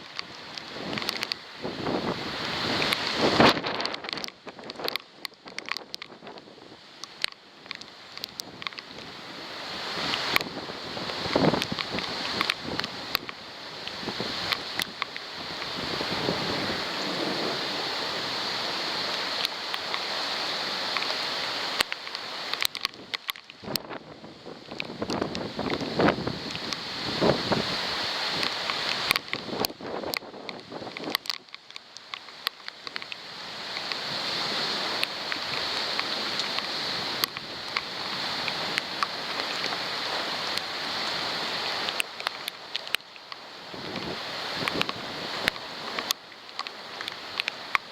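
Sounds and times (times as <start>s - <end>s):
heavy rain hissing: 0.0s - 5.2s, 6.2s - 31.1s, 31.8s - 47.9s
raindrops ticking on camera: 0.0s - 47.9s.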